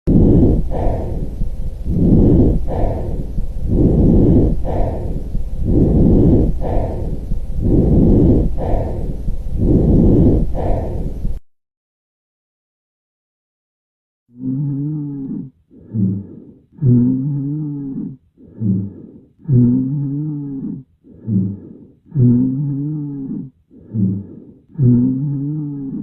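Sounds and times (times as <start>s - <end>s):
breath sounds through stethoscope: 0.1s - 11.4s, 14.4s - 26.0s.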